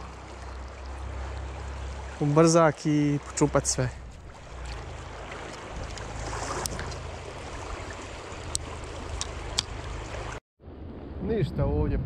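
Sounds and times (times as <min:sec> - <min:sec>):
fast-flowing river rushing: 0:00.0 - 0:10.4.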